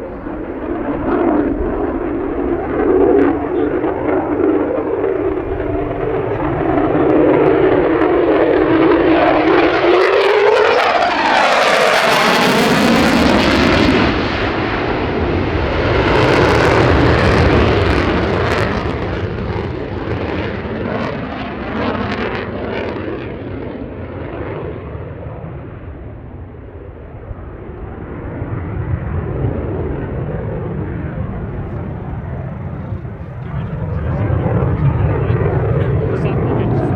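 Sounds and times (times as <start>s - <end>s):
jet flying past: 0.0s - 36.9s.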